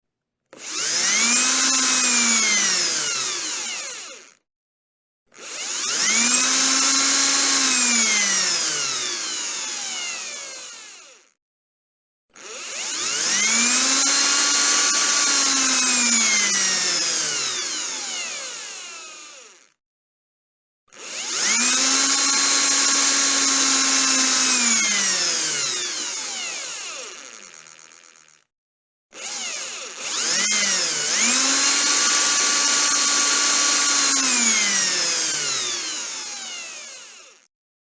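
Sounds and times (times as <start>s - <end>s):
electric drill motor whining: 0.5s - 4.4s, 5.3s - 11.4s, 12.4s - 19.8s, 20.9s - 28.5s, 29.1s - 37.5s.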